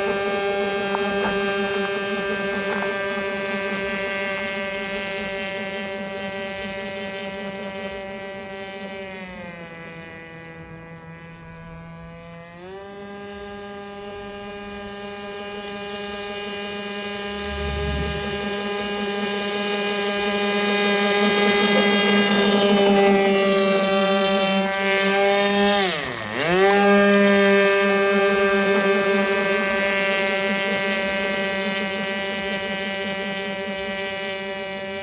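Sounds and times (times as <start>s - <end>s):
model engine and propeller running: 0.0s - 35.0s.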